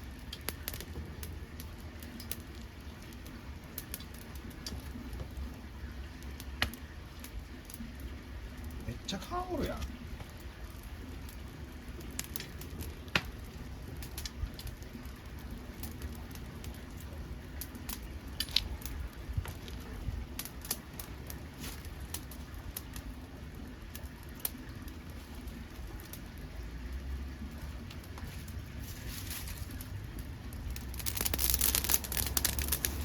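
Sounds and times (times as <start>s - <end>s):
stove low rumble: 0.0s - 33.0s
wood fire crackling and popping: 0.0s - 33.0s.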